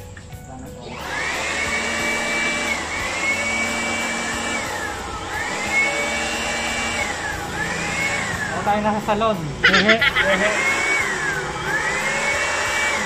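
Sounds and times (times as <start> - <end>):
electric blower motor whine: 0.8 - 13.0.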